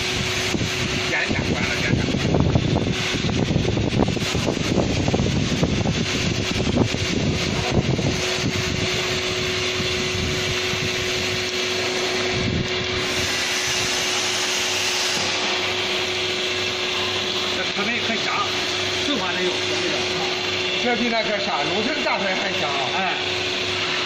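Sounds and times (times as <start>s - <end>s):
oil press motor and pump whir: 0.0s - 24.0s.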